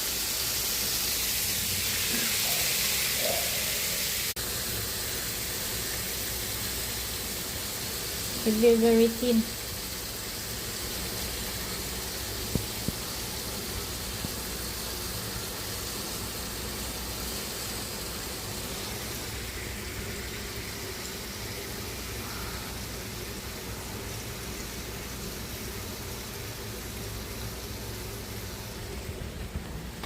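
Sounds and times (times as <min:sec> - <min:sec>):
grill blower hissing: 0:00.0 - 0:30.0.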